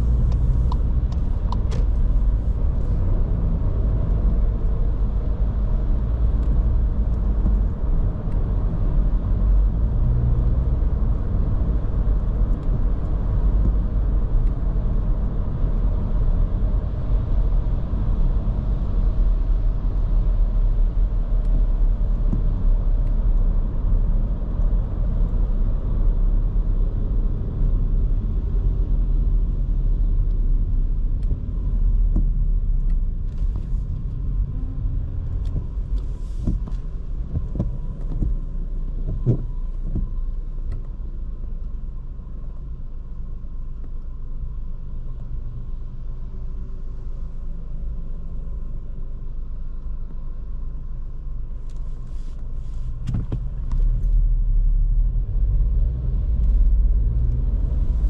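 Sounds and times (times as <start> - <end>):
car road rumble and engine: 0.0 - 58.0.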